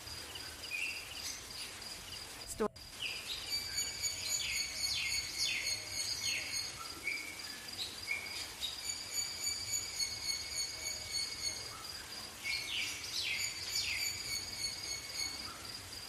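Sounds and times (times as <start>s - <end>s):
high-pitched insect tone: 2.2s - 16.0s.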